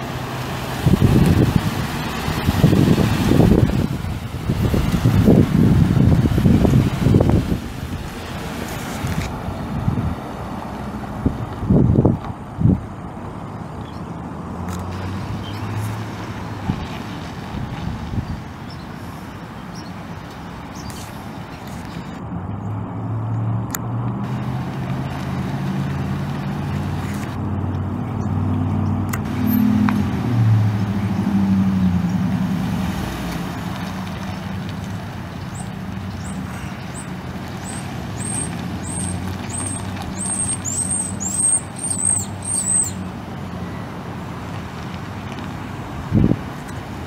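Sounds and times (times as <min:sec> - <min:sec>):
truck engine running: 0:00.0 - 0:23.1, 0:23.7 - 0:47.0.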